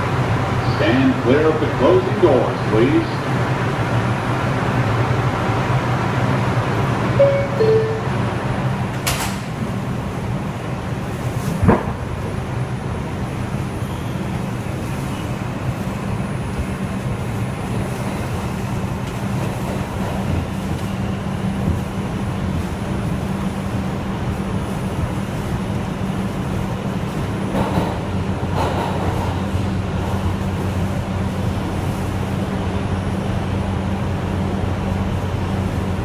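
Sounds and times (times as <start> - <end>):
subway train rumble and motor hum: 0.0 - 36.0.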